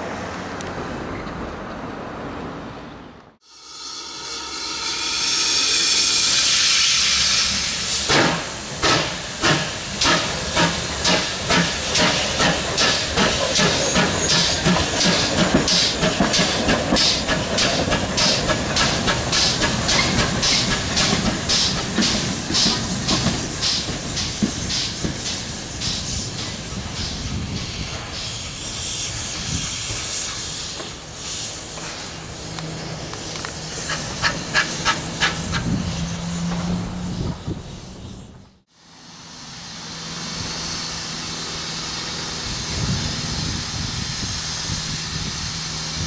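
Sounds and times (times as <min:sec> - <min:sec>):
loud steam hiss: 0:03.4 - 0:38.0, 0:38.8 - 0:46.0
steam locomotive exhaust beats: 0:03.5 - 0:46.0.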